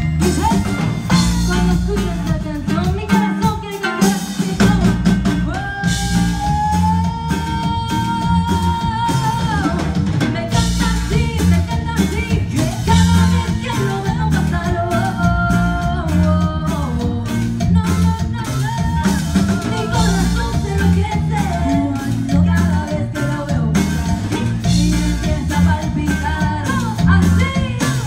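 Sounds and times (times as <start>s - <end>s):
accordion: 0.0s - 28.0s
acoustic guitar: 0.0s - 28.0s
bass guitar: 0.0s - 28.0s
drum kit beat: 0.0s - 28.0s.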